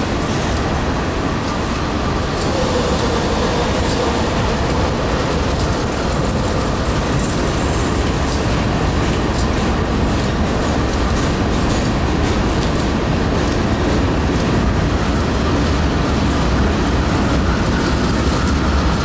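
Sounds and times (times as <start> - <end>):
steel wheels rumbling on rail: 0.0 - 19.0
wheels clicking over rail joints: 0.2 - 19.0.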